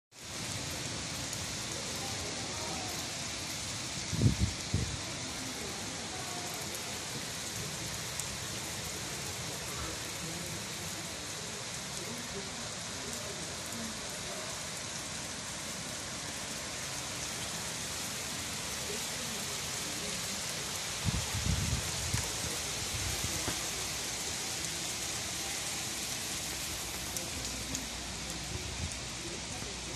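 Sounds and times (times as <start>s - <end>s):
steady rain falling: 0.1s - 29.9s.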